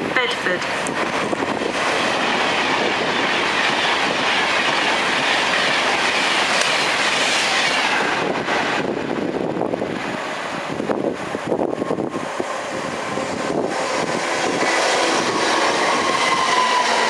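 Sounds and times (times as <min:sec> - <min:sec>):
train wheels clacking on rails: 0:00.0 - 0:17.0.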